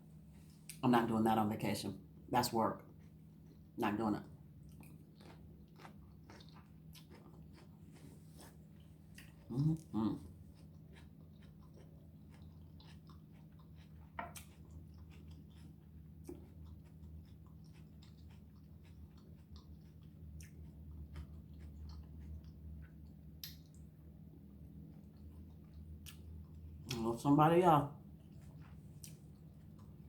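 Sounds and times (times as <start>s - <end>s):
person chewing food: 2.8s - 27.1s, 28.0s - 30.0s.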